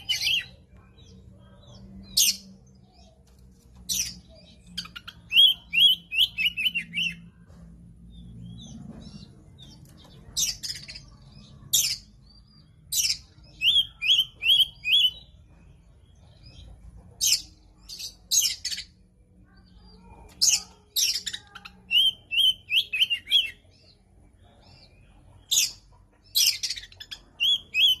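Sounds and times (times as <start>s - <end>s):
songbird singing chirps: 0.0s - 28.0s.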